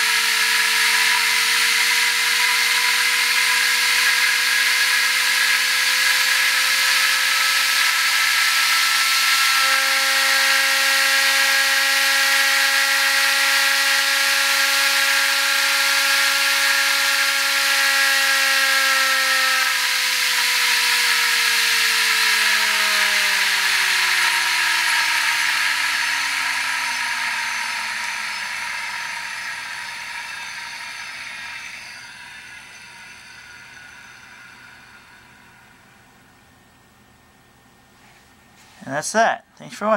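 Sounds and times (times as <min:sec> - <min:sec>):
belt drive whine: 0:00.0 - 0:36.3.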